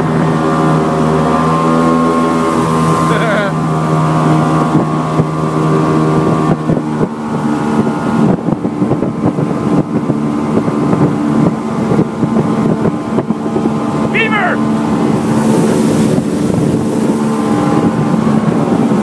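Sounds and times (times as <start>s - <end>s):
motorboat engine running: 0.0s - 19.0s
wind buffeting microphone: 0.0s - 19.0s.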